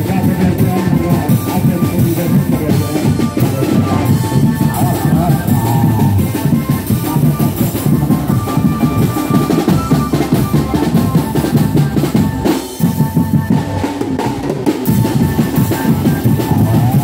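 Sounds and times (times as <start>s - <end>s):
marching drums playing: 0.0s - 17.0s.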